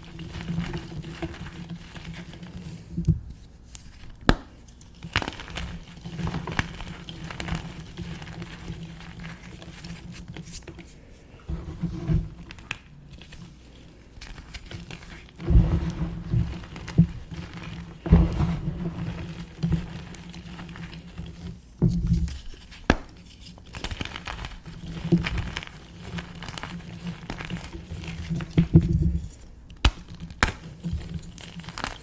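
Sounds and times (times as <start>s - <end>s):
chalk crunching and crackling: 0.0s - 32.0s.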